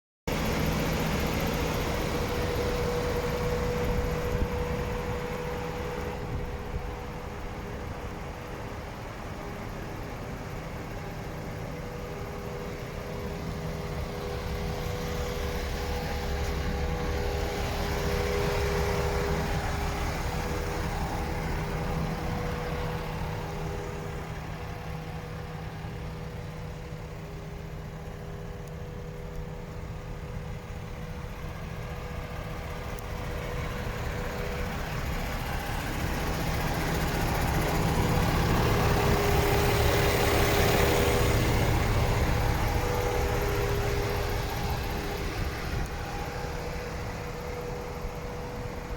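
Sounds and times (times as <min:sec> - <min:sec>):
diesel truck engine idling: 0:00.3 - 0:48.9.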